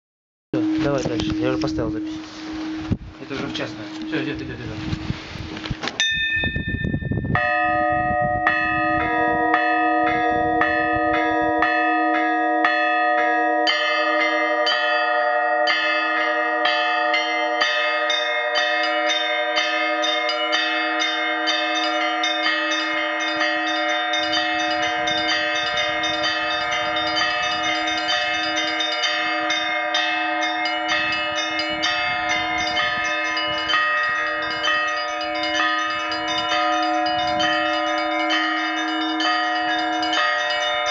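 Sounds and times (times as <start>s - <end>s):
small bells struck rhythmically: 0.6s - 4.8s, 6.0s - 40.9s
low bell tone: 0.6s - 40.9s.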